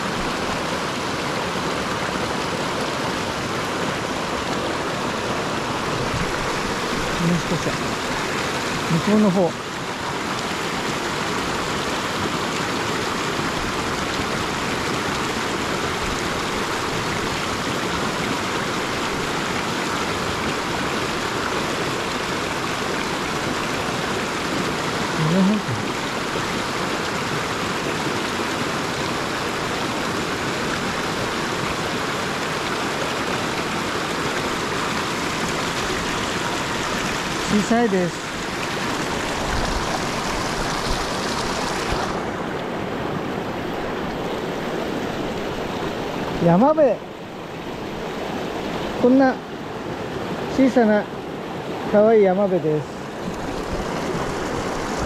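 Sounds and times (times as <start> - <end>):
river rushing over boulders: 0.0 - 55.0.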